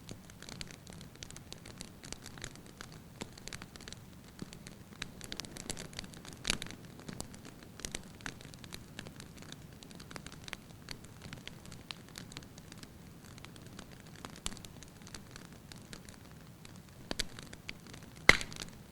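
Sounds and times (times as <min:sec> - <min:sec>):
log fire crackling: 0:00.0 - 0:18.9.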